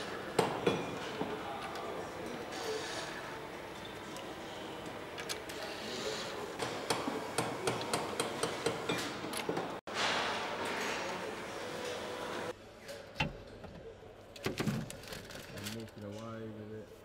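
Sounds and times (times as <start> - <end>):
engine assembly shop background: 0.0 - 17.0.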